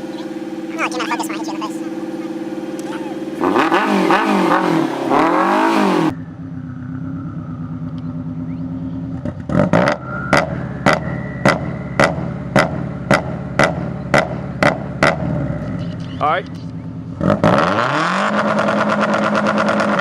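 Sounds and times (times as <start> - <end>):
car engine revving: 0.0 - 20.0
launch limiter exhaust bangs: 1.7 - 20.0.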